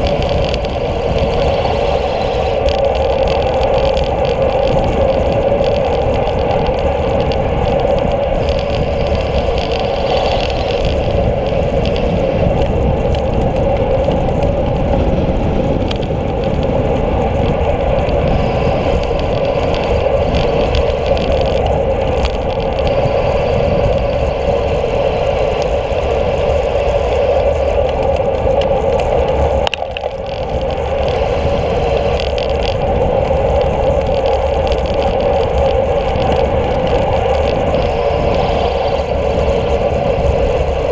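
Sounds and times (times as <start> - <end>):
bicycle road noise: 0.0 - 40.9
wind rush: 0.0 - 40.9.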